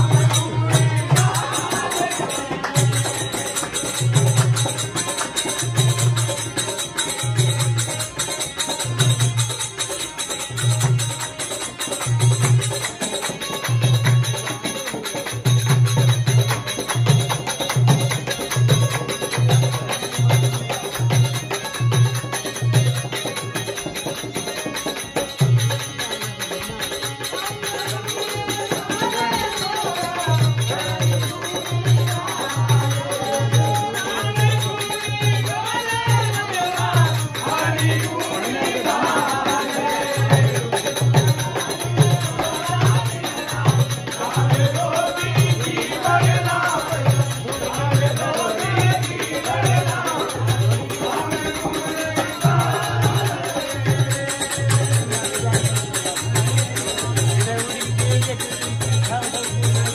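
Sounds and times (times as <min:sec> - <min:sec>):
devotional singing: 0:00.0 - 0:59.9
harmonium: 0:00.0 - 0:59.9
jingling percussion: 0:00.0 - 0:59.9.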